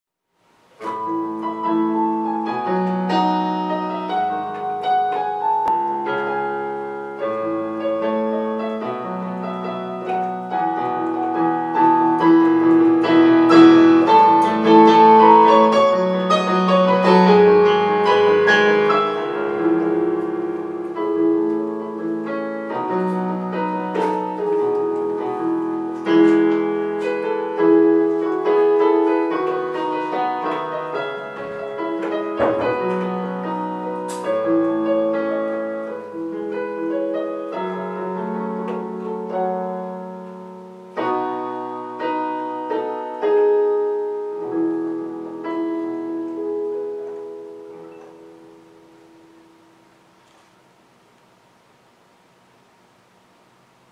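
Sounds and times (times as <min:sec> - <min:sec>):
electronic keyboard piano melody: 0:00.5 - 0:50.4.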